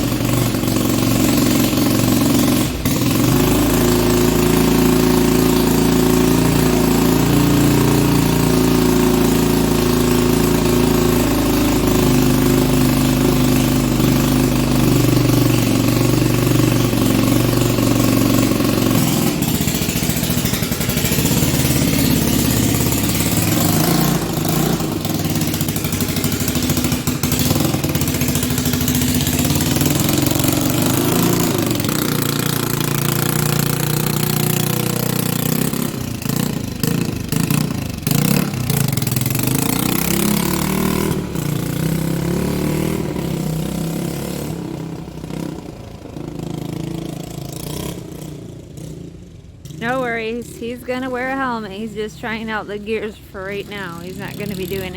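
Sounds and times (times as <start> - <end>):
engine idling: 0.0 - 44.1.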